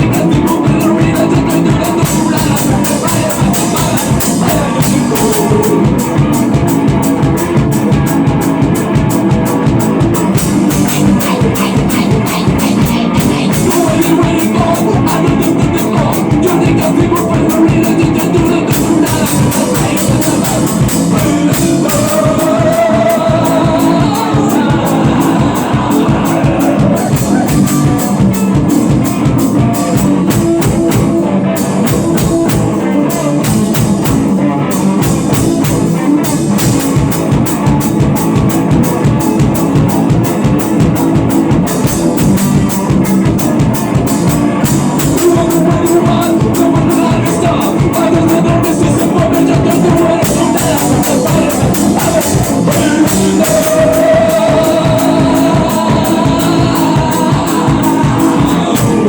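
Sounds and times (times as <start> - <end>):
drum kit: 0.0 - 59.0
electric guitar: 0.0 - 59.0
person singing: 0.0 - 59.0
rock music: 0.0 - 59.0.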